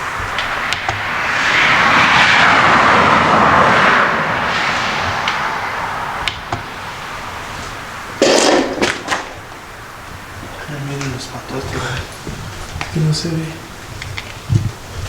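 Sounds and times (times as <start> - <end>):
car driving past: 0.0 - 15.0.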